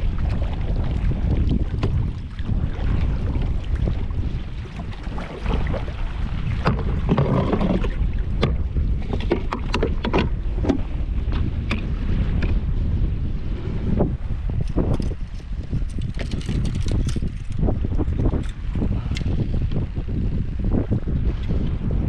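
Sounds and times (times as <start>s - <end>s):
waves slapping against hull: 0.0s - 19.9s
wind buffeting microphone: 0.0s - 22.0s.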